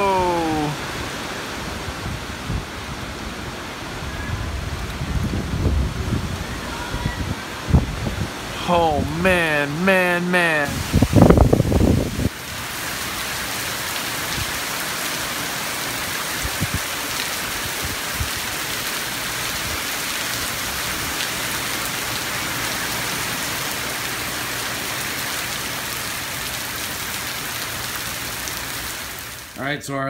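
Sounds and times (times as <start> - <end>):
heavy rain pouring: 0.0 - 29.6.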